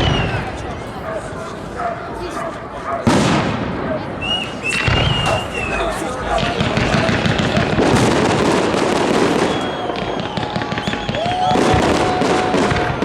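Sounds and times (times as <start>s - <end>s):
whistling fireworks: 0.0s - 0.8s, 3.0s - 13.0s
fireworks crackling: 0.0s - 1.8s, 2.6s - 13.0s.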